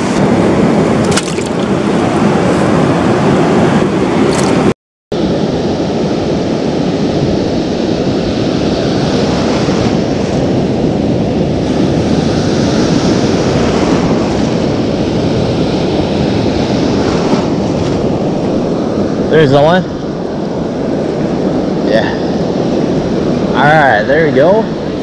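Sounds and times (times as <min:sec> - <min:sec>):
ocean surf breaking: 0:00.0 - 0:25.0
wind on microphone: 0:00.0 - 0:25.0.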